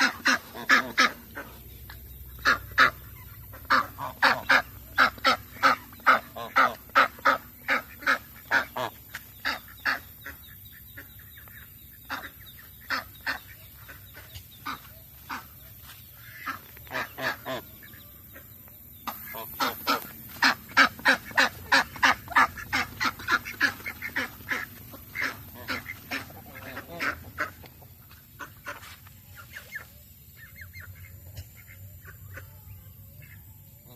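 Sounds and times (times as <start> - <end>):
waterfowl calling: 0.0 - 33.9.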